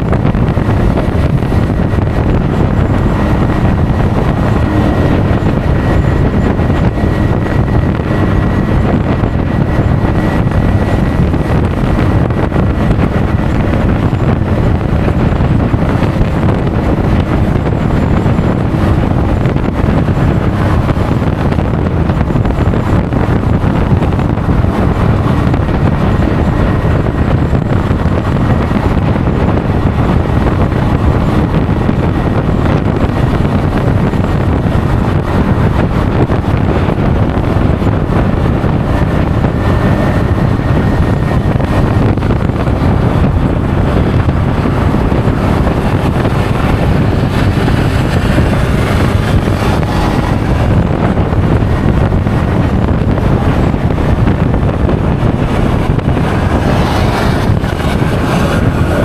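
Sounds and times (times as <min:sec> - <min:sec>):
scooter engine: 0:00.0 - 0:59.0
wind rushing over microphone: 0:00.0 - 0:59.0.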